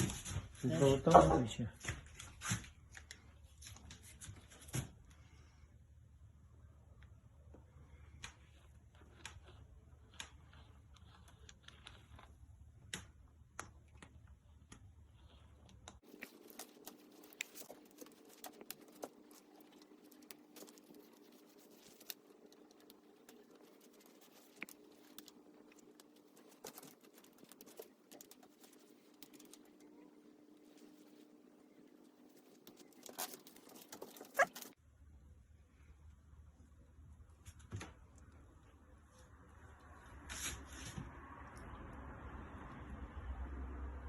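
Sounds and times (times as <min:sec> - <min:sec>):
low background hum: 0:00.0 - 0:44.0.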